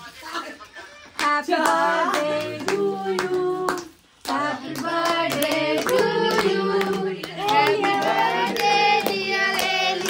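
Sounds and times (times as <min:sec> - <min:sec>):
people clapping along: 0:01.1 - 0:10.0
group singing together: 0:01.2 - 0:10.0.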